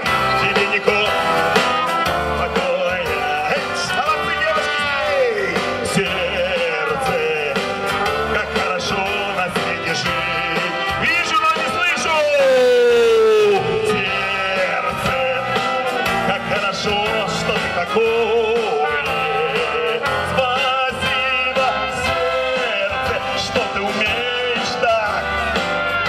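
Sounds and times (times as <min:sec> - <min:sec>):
band with trumpets: 0:00.0 - 0:26.0
man singing into a microphone: 0:00.0 - 0:26.0.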